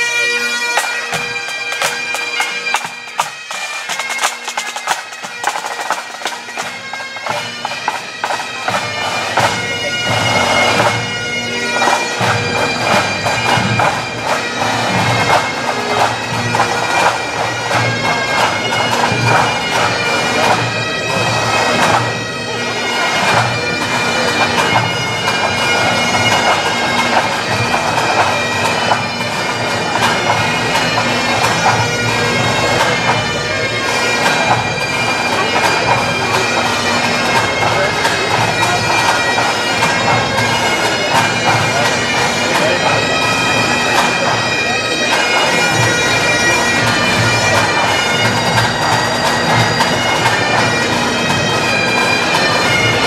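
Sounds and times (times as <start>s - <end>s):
bagpipes playing: 0.0s - 53.0s
crowd chatter: 0.0s - 53.0s.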